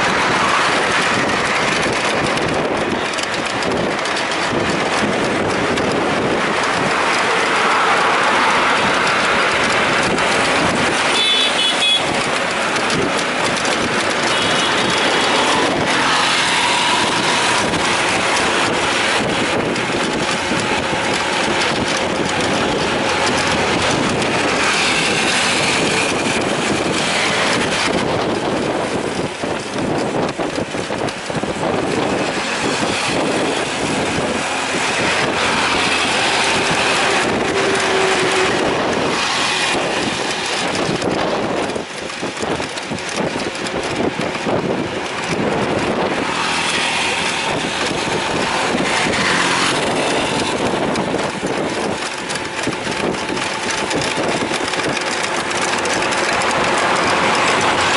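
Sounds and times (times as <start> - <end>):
passing traffic: 0.0 - 57.9
rickshaw engine running: 0.0 - 57.9
ride rumble: 0.0 - 57.9.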